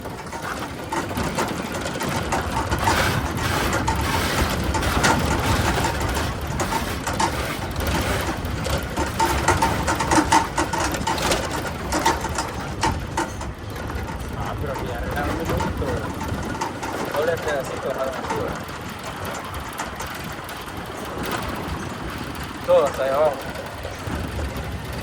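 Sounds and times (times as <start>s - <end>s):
mechanical rattling and clicking: 0.0s - 25.0s
small engine running: 0.0s - 25.0s.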